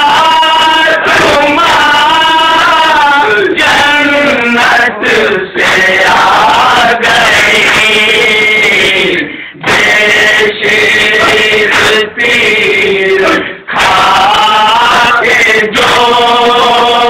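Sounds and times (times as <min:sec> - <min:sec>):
man singing a lament: 0:00.0 - 0:17.0.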